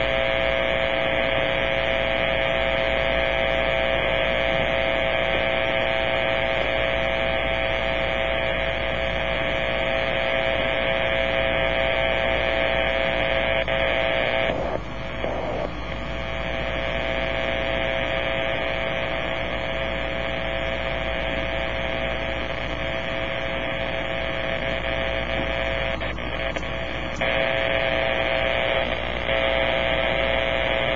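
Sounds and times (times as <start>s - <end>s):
harsh radio interference buzz: 0.0s - 30.9s.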